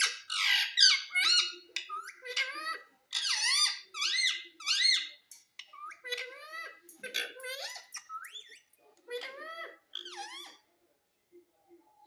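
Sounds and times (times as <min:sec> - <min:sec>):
parrot squeaky calls: 0:00.0 - 0:10.7.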